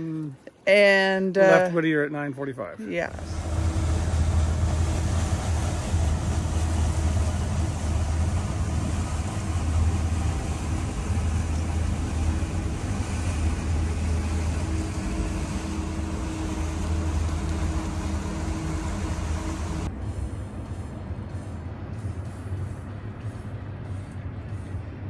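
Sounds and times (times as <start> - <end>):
higher steady tone: 0.0 - 2.0, 2.8 - 24.0
outboard motor droning: 2.9 - 24.8
rushing noise: 3.1 - 25.0.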